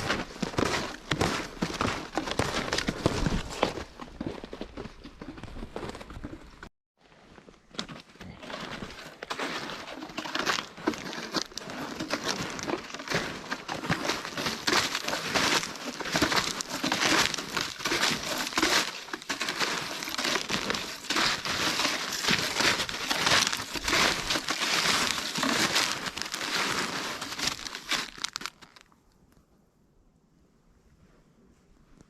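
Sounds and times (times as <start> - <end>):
snowshoes crunching snow: 0.0 - 28.8.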